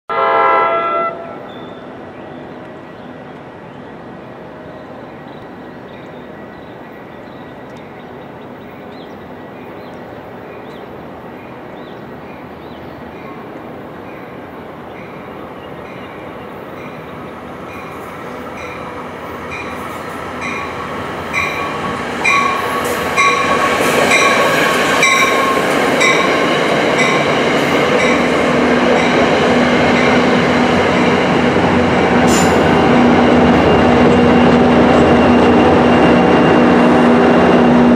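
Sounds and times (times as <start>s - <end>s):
electric train rumble: 0.2s - 37.9s.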